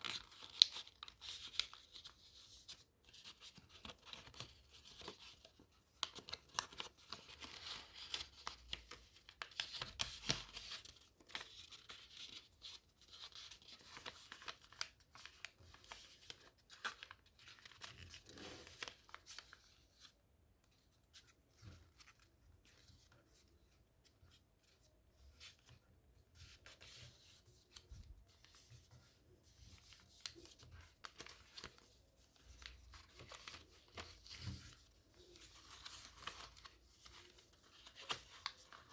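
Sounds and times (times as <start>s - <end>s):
paper rustling and crinkling: 0.0s - 38.9s.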